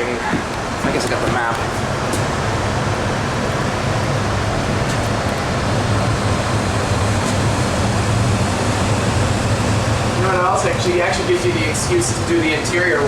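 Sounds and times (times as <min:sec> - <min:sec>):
low equipment hum: 0:00.0 - 0:13.0
rush of ventilation air: 0:00.0 - 0:13.0.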